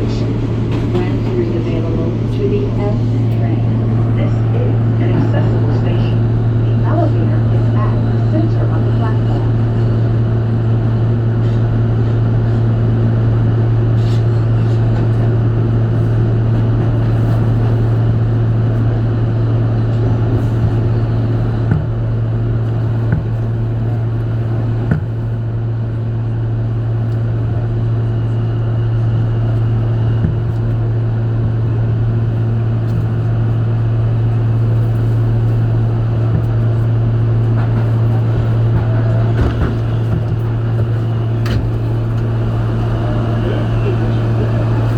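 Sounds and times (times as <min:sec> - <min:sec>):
subway car low hum: 0:00.0 - 0:44.9
wheel and track rumble: 0:00.0 - 0:44.9.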